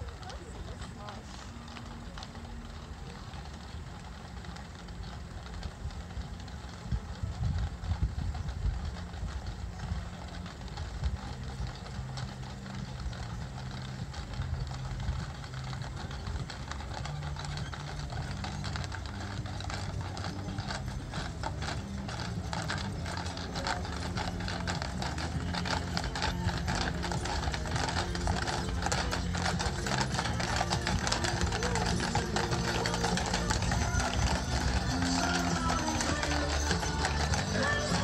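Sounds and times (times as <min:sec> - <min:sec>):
horse hooves clip-clopping on asphalt: 0:00.0 - 0:38.0.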